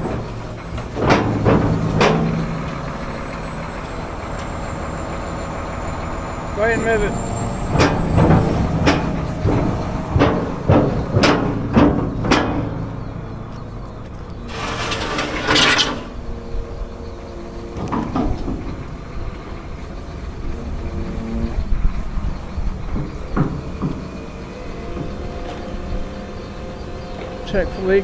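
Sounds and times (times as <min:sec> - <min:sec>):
excavator diesel engine running: 0:00.0 - 0:28.0
hydraulic pump whine: 0:00.0 - 0:28.0.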